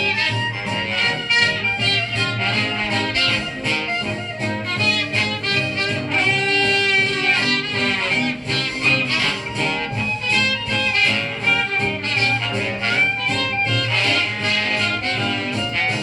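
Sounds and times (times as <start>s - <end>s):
recorded string music: 0.0s - 16.0s.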